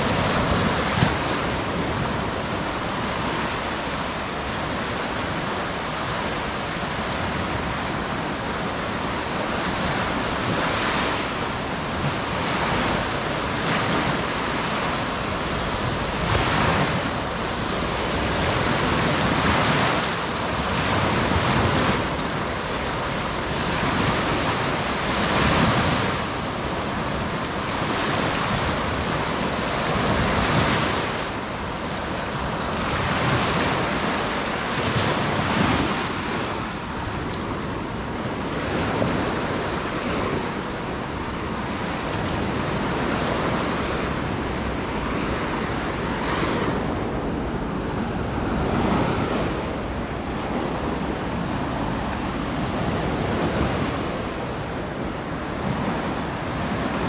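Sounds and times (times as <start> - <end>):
sea waves breaking: 0.0 - 57.0
wind on microphone: 0.0 - 57.0.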